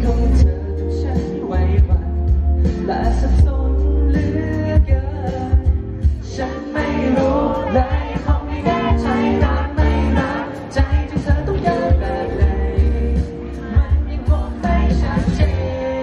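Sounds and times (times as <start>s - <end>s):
backing track with drums and bass: 0.0s - 16.0s
man singing pop ballad: 0.0s - 16.0s.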